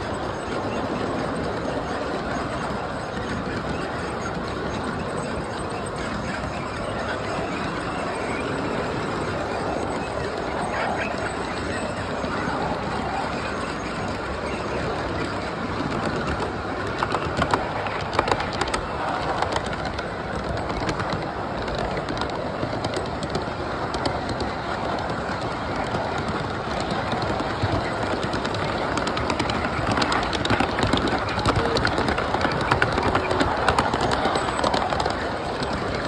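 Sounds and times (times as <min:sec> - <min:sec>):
model train rumbling on track: 0:00.0 - 0:36.0
wheels clicking over rail joints: 0:00.0 - 0:36.0.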